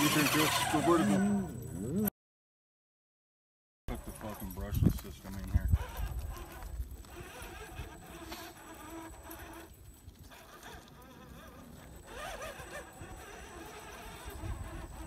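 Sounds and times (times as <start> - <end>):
small electric motor whining: 0.0 - 2.1, 3.9 - 15.0.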